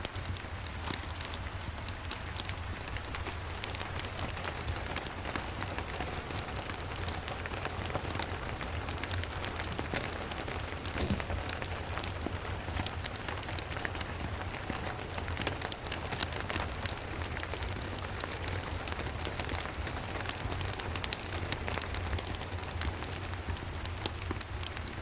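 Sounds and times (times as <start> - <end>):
steady rain falling: 0.0 - 25.0
wood fire crackling: 0.0 - 25.0.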